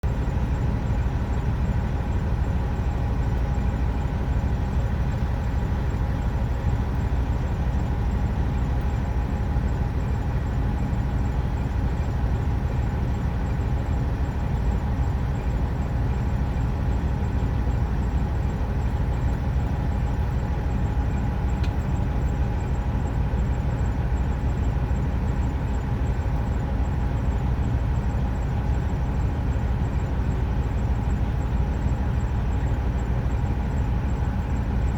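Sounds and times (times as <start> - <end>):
truck engine rumble: 0.0 - 34.9.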